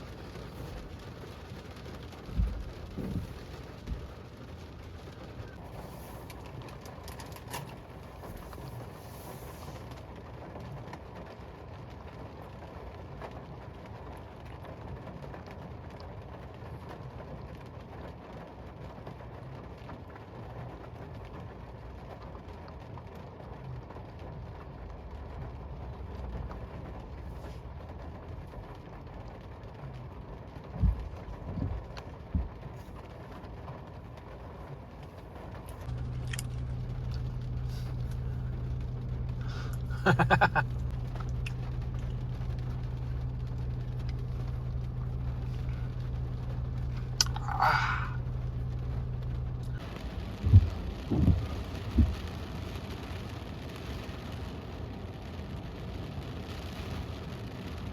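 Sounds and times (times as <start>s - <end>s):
rain on a car: 0.0s - 57.9s.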